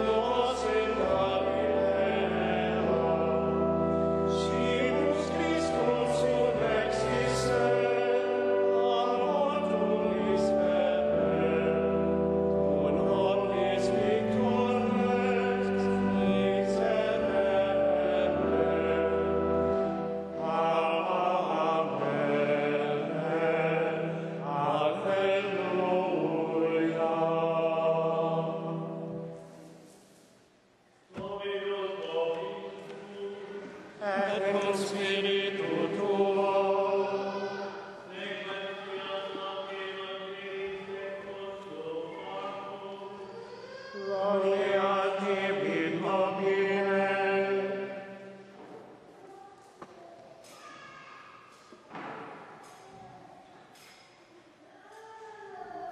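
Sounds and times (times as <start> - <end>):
voices singing plainchant: 0.0 - 29.7, 31.1 - 48.6
choir chanting slow held notes: 0.0 - 30.2, 31.2 - 48.6.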